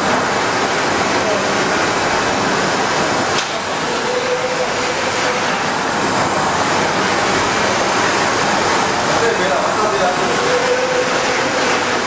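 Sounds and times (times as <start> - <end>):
machine fans: 0.0 - 12.0
printer carriage whirring: 0.0 - 12.0.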